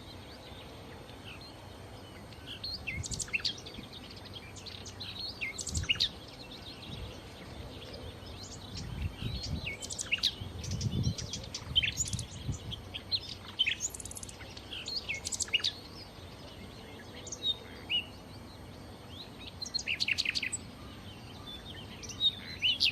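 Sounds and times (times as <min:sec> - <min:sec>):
nightingale singing: 0:00.0 - 0:22.9.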